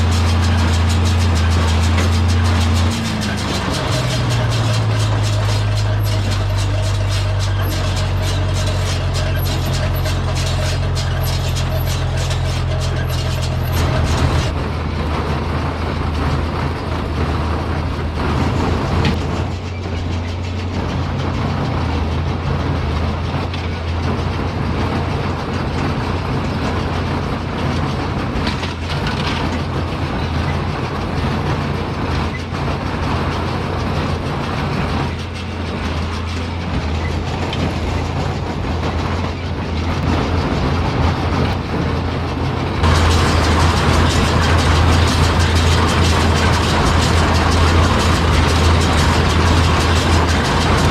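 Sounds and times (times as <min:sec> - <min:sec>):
baler machinery clattering: 0:00.0 - 0:50.9
tractor engine running: 0:00.0 - 0:50.9.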